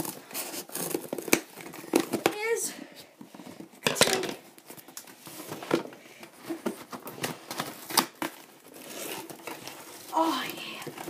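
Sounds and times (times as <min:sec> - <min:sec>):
cardboard package being opened: 0:00.0 - 0:02.5, 0:03.4 - 0:11.0.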